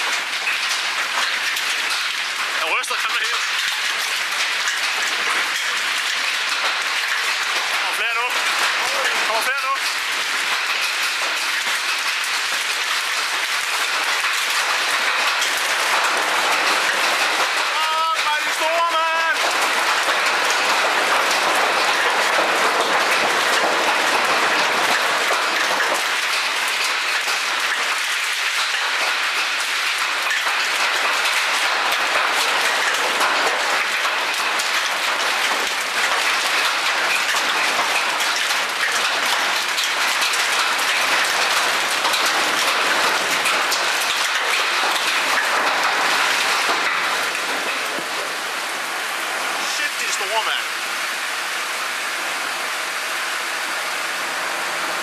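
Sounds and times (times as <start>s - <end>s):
heavy rain and hail on pavement: 0.0s - 55.0s.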